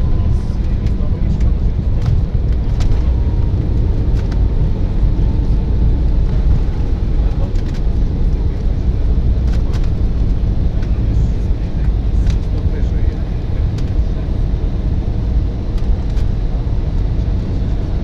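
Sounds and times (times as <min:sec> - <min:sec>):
aircraft cabin rumble: 0:00.0 - 0:18.0.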